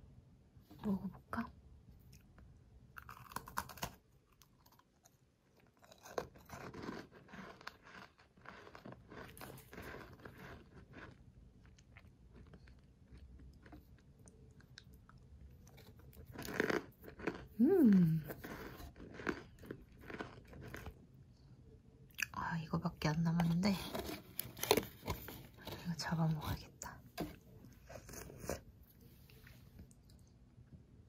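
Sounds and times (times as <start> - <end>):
crunchy chewing of cookie: 2.0 - 30.7.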